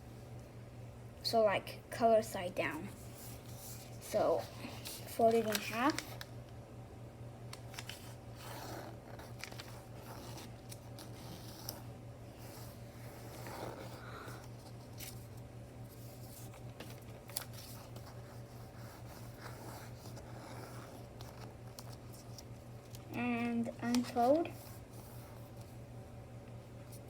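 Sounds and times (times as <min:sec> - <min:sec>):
steady low hum: 0:00.0 - 0:27.0
paper rustling and creasing: 0:02.8 - 0:06.3, 0:07.5 - 0:25.8.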